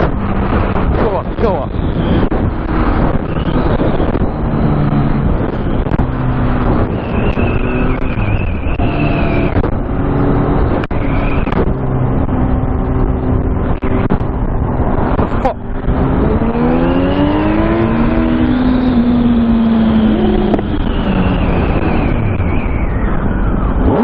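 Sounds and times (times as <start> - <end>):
vehicle engine running: 0.0 - 23.7
steady noisy rush: 0.0 - 24.0.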